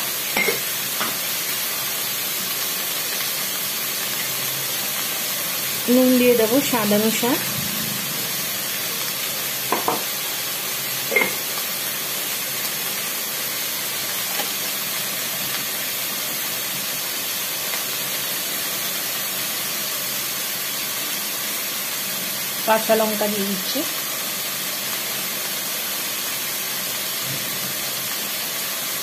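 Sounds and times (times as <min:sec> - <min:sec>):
vegetables sizzling in a pan: 0:00.0 - 0:29.0.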